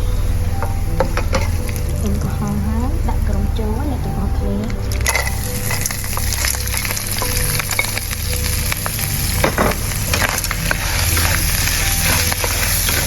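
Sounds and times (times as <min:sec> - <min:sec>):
shellfish sizzling in oil: 0:00.2 - 0:02.6, 0:04.7 - 0:13.0.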